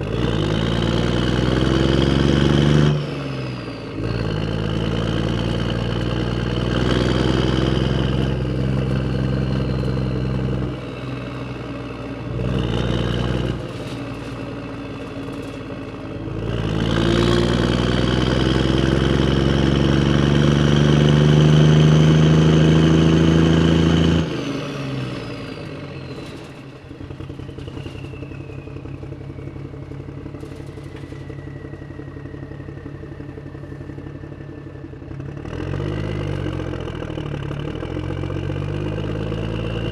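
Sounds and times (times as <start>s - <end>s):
vehicle engine revving and idling: 0.0s - 39.9s.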